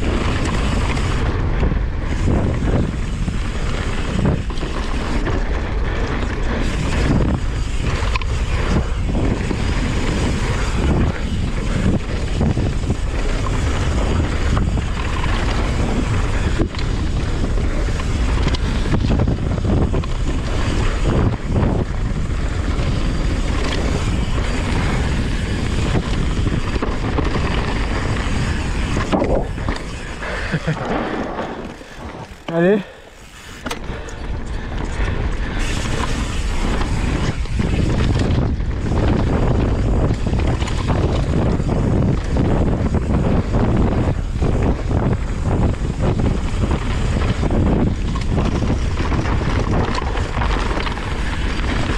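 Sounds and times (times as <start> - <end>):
bike knocks and rattles: 0.0 - 51.9
tyres on dirt trail: 0.0 - 51.9
wind on microphone: 0.0 - 51.9.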